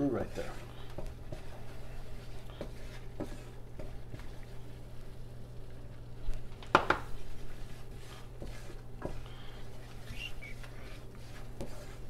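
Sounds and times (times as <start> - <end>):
steady low hum: 0.0 - 12.0
wooden spoon scraping a pan: 0.0 - 12.0.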